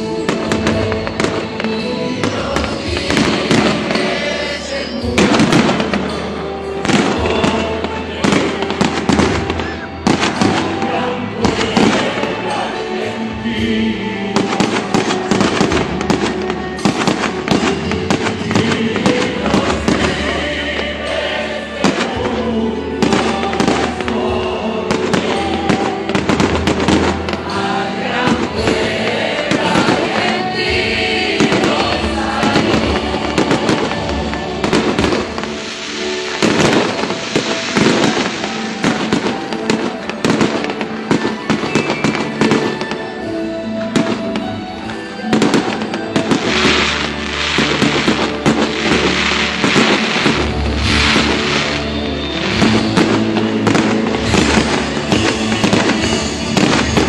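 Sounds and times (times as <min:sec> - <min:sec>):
fireworks banging and crackling: 0:00.0 - 0:57.0
loud music: 0:00.0 - 0:57.0.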